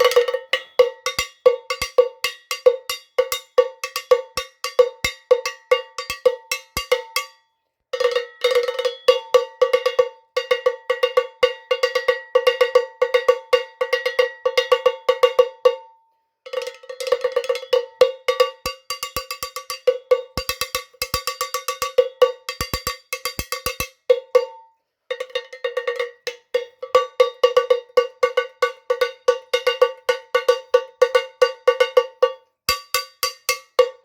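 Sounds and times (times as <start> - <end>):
cowbell clanking: 0.0 - 15.9, 16.5 - 34.0.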